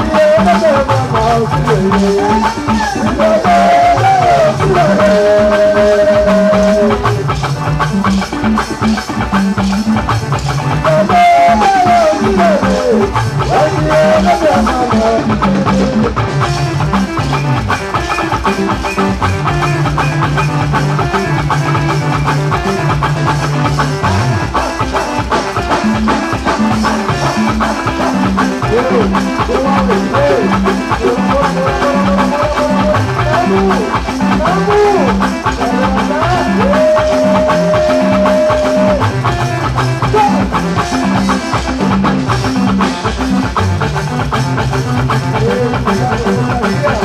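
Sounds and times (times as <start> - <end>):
band music with steady beat: 0.0 - 47.0
bass line: 0.0 - 47.0
sliding melody line: 0.0 - 47.0.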